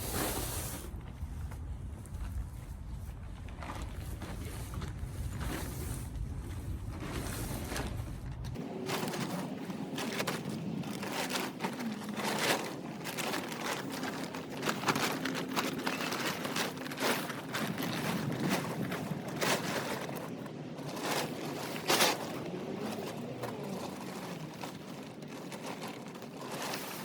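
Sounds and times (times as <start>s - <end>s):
canopy cover rustling: 3.6s - 27.0s.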